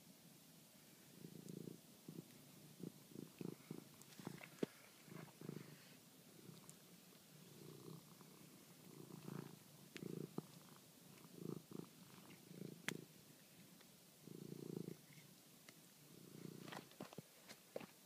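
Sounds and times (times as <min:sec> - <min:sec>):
cat purring: 0:00.8 - 0:17.3.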